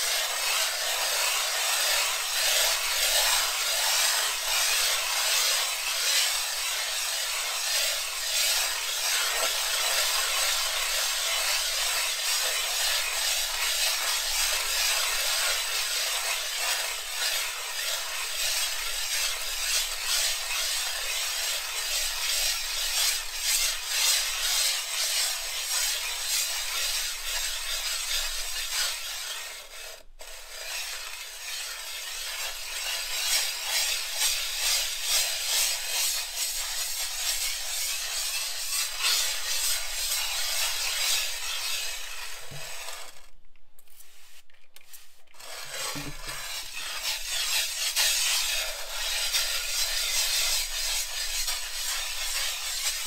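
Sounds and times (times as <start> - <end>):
glass muller grinding pigment: 0.0 - 43.3, 44.0 - 53.0.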